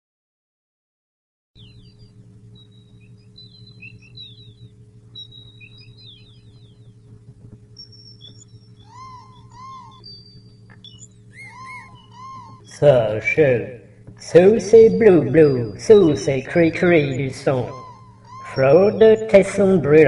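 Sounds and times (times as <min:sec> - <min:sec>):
bird call with rising-falling notes: 0:01.6 - 0:20.0
birds chirping and whistling: 0:01.6 - 0:20.0
steady low hum: 0:01.6 - 0:20.0.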